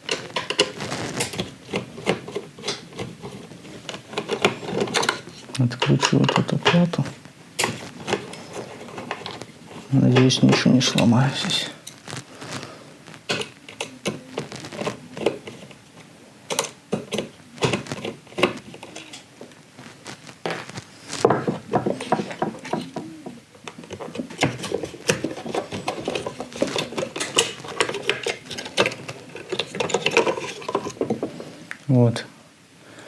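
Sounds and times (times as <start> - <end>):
small parts rattling: 0.0 - 12.2, 13.2 - 19.4, 20.4 - 31.4.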